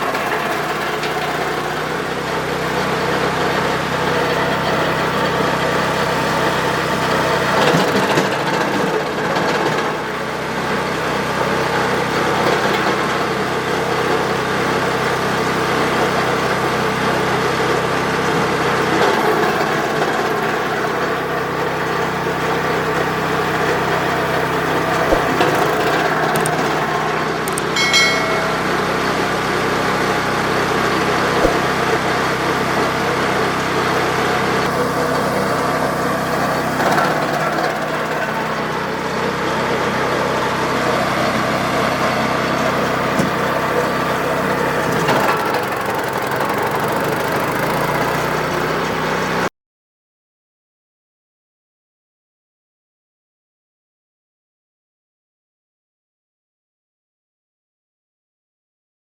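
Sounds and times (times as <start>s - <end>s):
wood chipper engine running: 0.0s - 49.5s.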